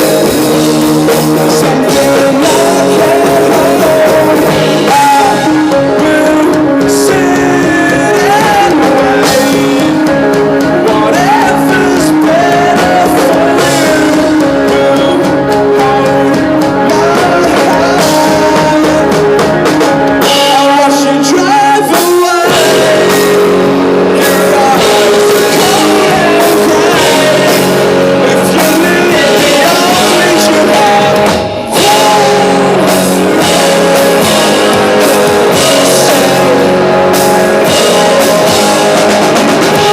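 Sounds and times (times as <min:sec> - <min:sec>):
drum kit: 0:00.0 - 0:39.9
electric guitar: 0:00.0 - 0:39.9
person singing: 0:00.0 - 0:39.9.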